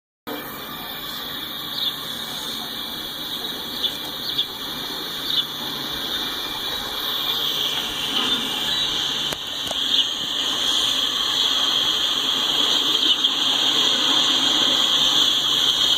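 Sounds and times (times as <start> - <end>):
low rolling rumble of train: 0.3 - 15.9
train wheels squealing on rails: 0.3 - 15.9.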